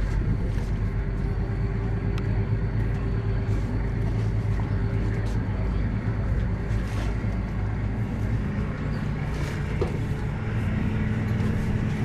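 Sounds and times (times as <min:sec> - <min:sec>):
ferry engine low drone: 0:00.0 - 0:12.0.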